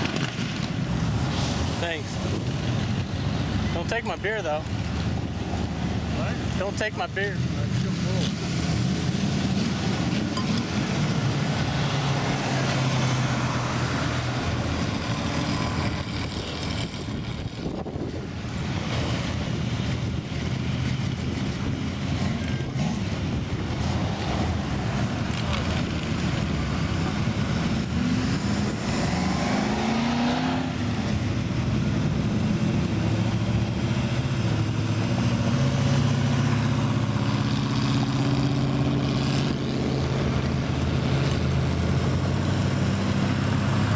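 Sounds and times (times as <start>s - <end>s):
car engines running: 0.0s - 43.9s
car engine revving pulling away: 7.7s - 43.9s.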